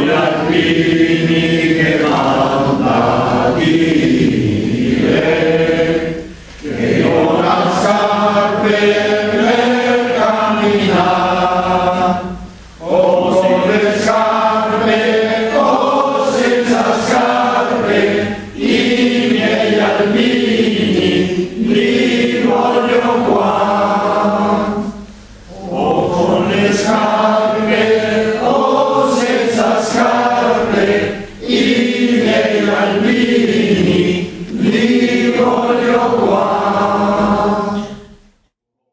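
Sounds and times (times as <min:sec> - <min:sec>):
choir singing: 0:00.0 - 0:38.2.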